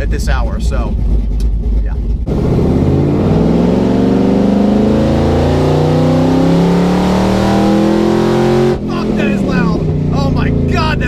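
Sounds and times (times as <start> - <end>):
loud car engine accelerating: 0.0 - 11.0.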